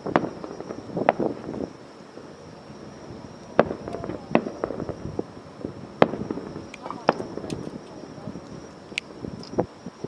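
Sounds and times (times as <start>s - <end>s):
fireworks bangs: 0.0s - 9.8s
fireworks crackling pops: 0.0s - 10.0s.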